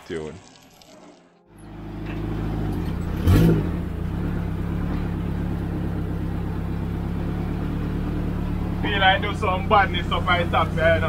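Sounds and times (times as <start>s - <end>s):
car engine heard from cabin: 1.6s - 11.0s.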